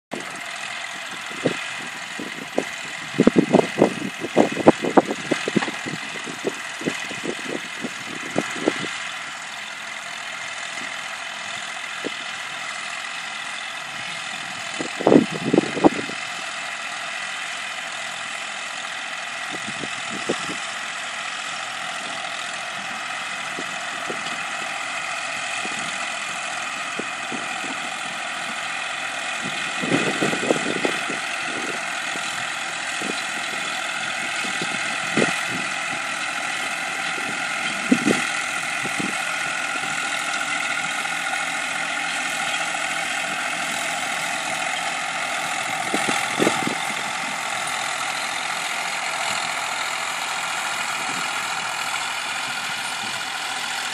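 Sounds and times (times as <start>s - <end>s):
tractor engine running: 0.1s - 53.9s.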